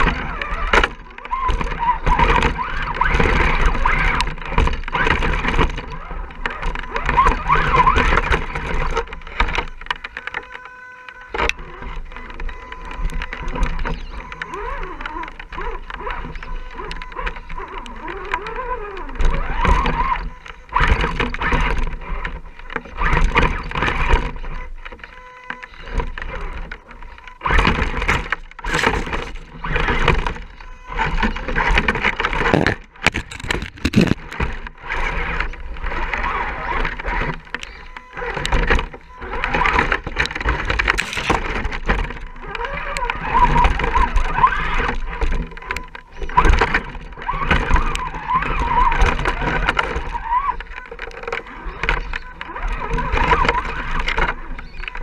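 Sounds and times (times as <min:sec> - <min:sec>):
electric motor and gears whining: 0:00.0 - 0:55.0
tyres crunching over rocks: 0:00.0 - 0:55.0.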